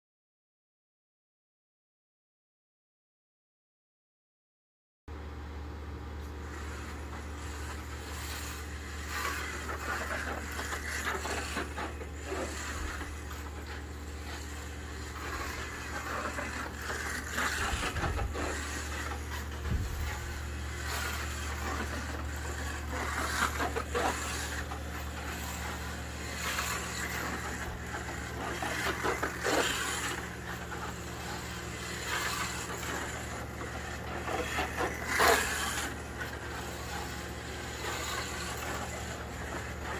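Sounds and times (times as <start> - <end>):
steady low hum: 5.1 - 39.9
slot car motor whirring: 6.2 - 39.9.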